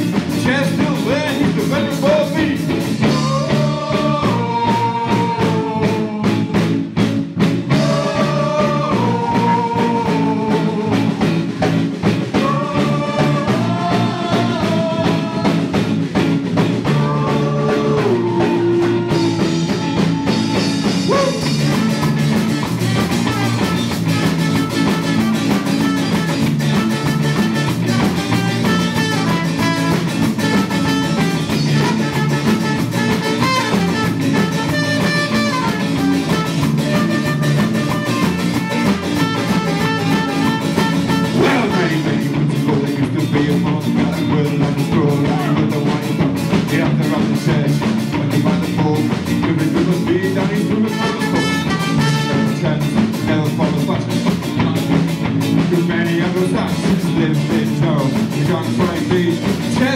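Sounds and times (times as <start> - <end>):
person singing: 0.0 - 6.8, 7.7 - 11.6, 12.3 - 16.0, 16.8 - 23.8, 24.6 - 59.9
drums: 0.0 - 59.9
electric guitar: 0.0 - 59.9.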